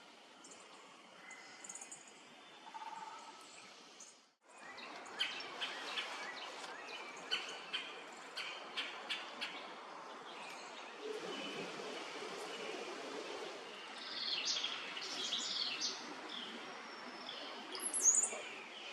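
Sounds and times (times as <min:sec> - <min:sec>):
steady outdoor hiss: 0:00.0 - 0:18.9.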